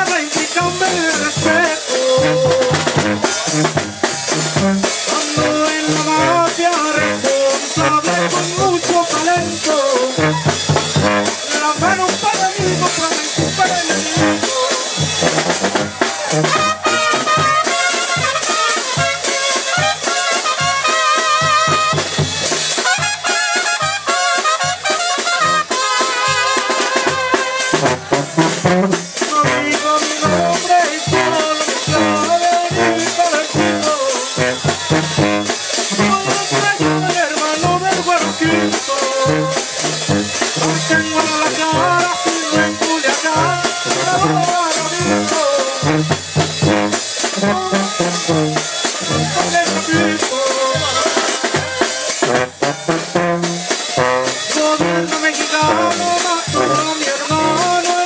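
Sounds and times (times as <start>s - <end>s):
bass drum beat: 0.0s - 58.0s
brass band playing: 0.0s - 58.0s.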